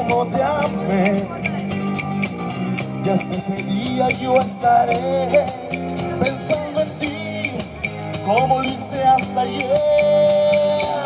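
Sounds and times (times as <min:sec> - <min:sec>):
acoustic guitar: 0:00.0 - 0:11.0
congas: 0:00.0 - 0:11.0
electric bass guitar: 0:00.0 - 0:11.0.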